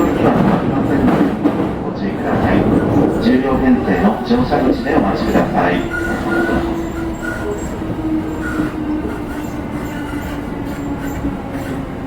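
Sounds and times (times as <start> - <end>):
train running gear rumble: 0.0 - 12.0
droning rail tone: 2.1 - 12.0.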